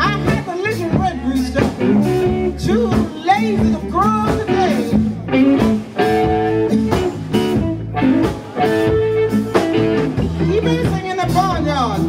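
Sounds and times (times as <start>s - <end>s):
bass guitar: 0.0s - 12.0s
guitar: 0.0s - 12.0s
live blues band playing: 0.0s - 12.0s.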